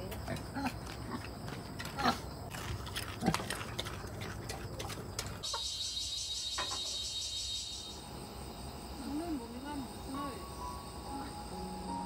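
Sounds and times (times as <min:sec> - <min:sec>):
pulsing insect chorus: 0:00.0 - 0:12.0.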